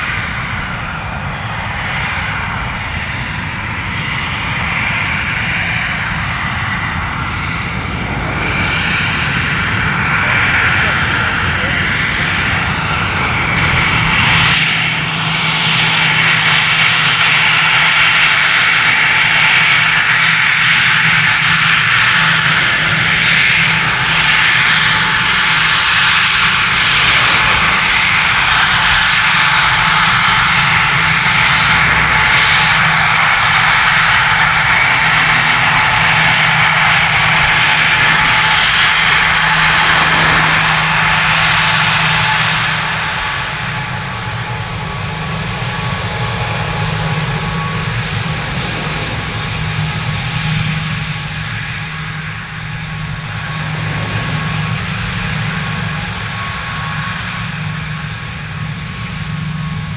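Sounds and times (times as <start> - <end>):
aircraft engines running: 0.0 - 59.9.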